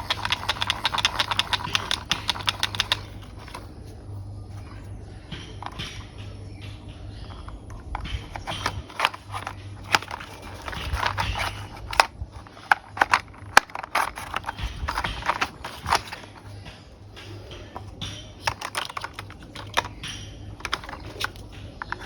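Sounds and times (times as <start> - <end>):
plastic toy parts clicking: 0.0 - 3.7, 5.6 - 6.1, 7.2 - 22.0
steady low hum: 0.0 - 22.0.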